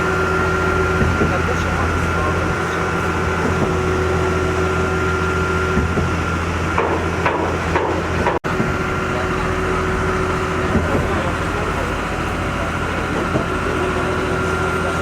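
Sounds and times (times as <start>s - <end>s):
construction machinery engine running: 0.0s - 15.0s.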